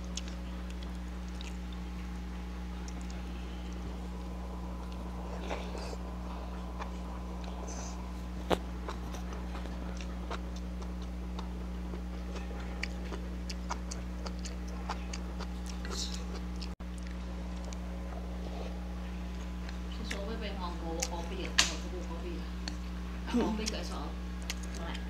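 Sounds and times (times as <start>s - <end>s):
person chewing noodles: 0.0s - 20.3s, 22.6s - 22.9s, 24.4s - 25.0s
low electrical hum: 0.0s - 25.0s.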